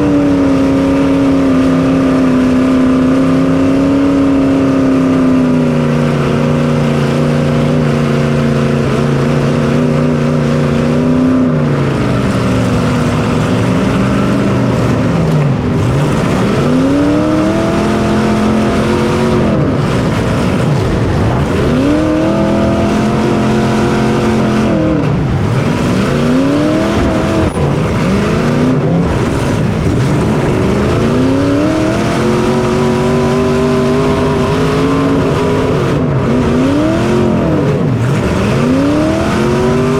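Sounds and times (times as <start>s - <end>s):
racing engine revving: 0.0s - 39.9s.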